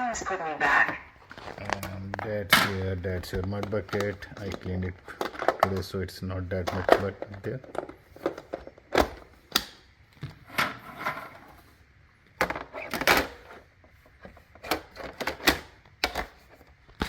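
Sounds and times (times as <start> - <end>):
plastic parts knocking and clicking: 1.3 - 10.4, 12.4 - 17.0.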